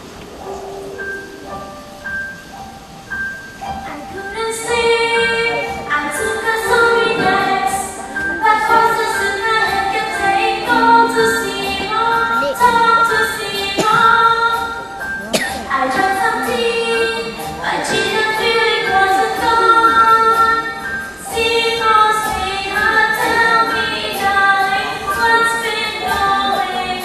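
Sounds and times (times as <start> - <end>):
instrumental accompaniment: 0.0 - 27.0
woman singing: 3.8 - 27.0.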